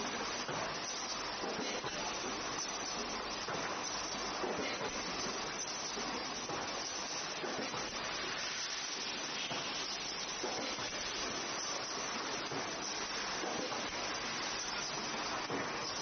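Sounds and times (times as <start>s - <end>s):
factory background hiss: 0.0s - 16.0s.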